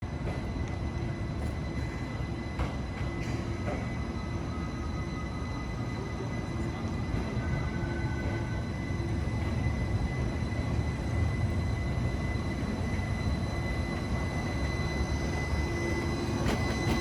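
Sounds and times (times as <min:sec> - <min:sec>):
streetcar rumbling on track: 0:00.0 - 0:17.0
faint high whines: 0:00.1 - 0:17.0.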